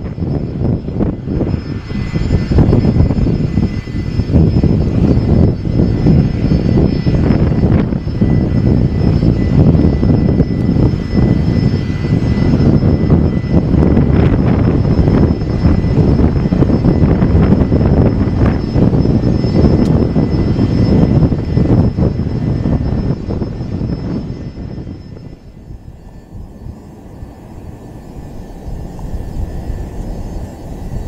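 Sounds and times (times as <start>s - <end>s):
jet engines roaring: 0.0s - 31.0s
thin steady whine: 0.0s - 31.0s.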